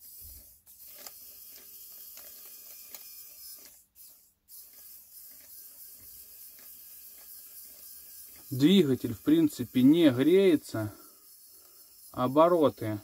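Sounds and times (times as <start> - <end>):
small gear motor whirring: 0.0 - 13.0.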